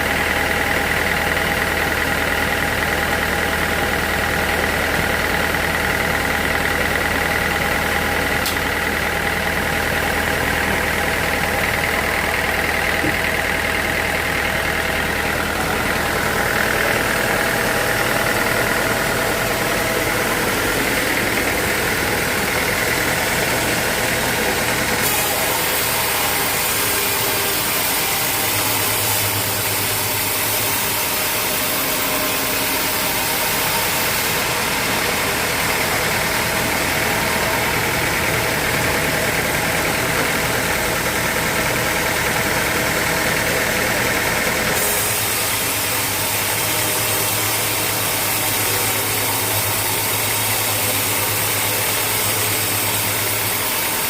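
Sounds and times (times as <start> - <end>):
sawmill machinery humming and whining: 0.0 - 54.0.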